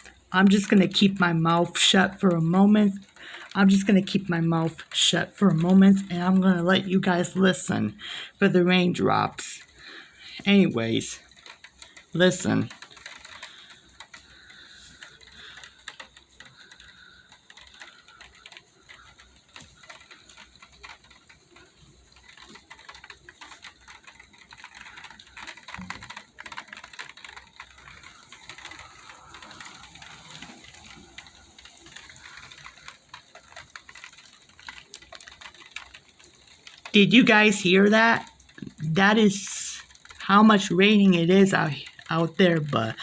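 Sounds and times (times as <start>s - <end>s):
raindrops pattering: 0.0s - 43.0s.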